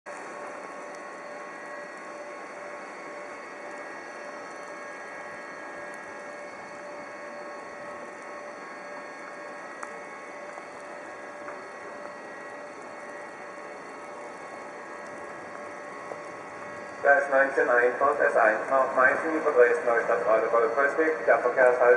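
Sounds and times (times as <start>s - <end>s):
constant whining tones: 0.1s - 21.9s
locomotive hum: 0.1s - 21.9s.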